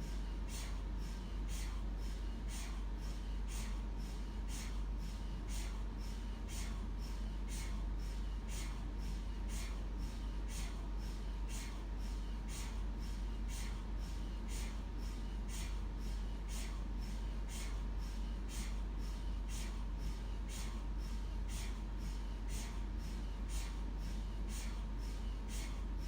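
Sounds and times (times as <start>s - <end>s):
mri scanner pulses: 0.0s - 26.0s
steady low hum: 0.0s - 26.0s.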